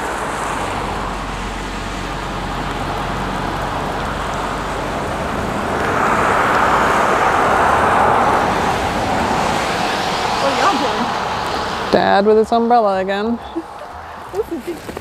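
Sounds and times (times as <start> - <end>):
car passing on road: 0.0 - 15.0.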